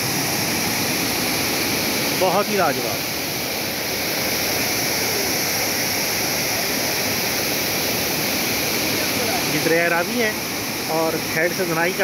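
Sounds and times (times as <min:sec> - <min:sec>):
water rushing over wall: 0:00.0 - 0:12.0.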